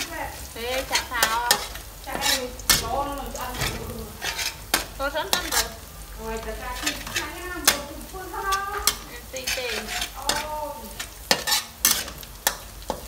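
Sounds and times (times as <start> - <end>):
garlic sizzling in hot oil: 0.0 - 13.0
metal spatula scraping a wok: 0.0 - 13.0.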